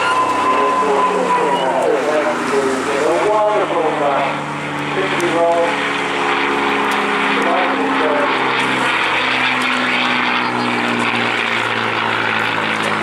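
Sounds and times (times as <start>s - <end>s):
propeller plane engine in flight: 0.0s - 13.0s.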